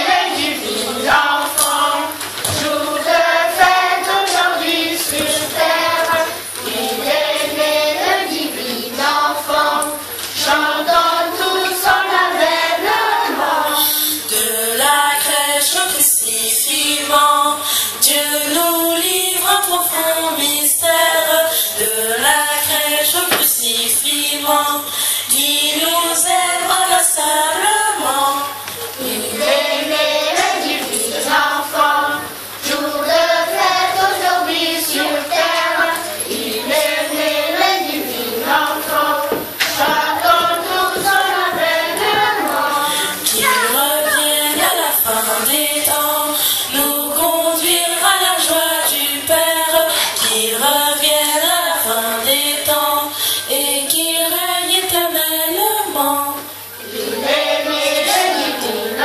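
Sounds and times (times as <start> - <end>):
children's choir singing: 0.0 - 59.0
woman singing into microphone: 0.0 - 59.0.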